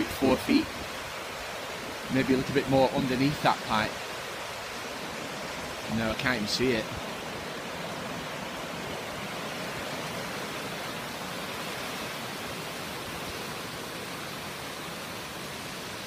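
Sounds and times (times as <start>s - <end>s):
flooded brook rushing: 0.0s - 16.0s.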